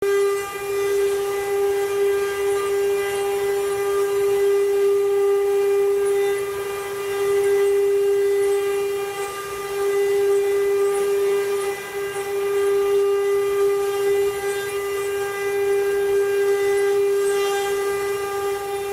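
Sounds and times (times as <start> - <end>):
router spindle whining: 0.0 - 18.9.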